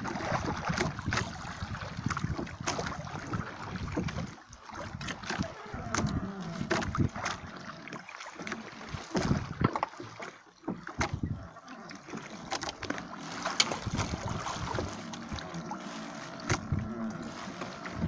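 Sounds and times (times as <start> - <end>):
wind on microphone: 0.0 - 7.7, 8.8 - 9.8, 11.0 - 18.0
water lapping against hull: 0.0 - 18.0.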